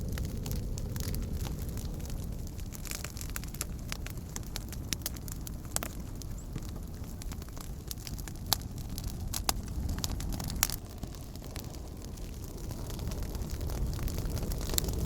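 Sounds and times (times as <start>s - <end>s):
wood campfire crackling: 0.0s - 15.0s.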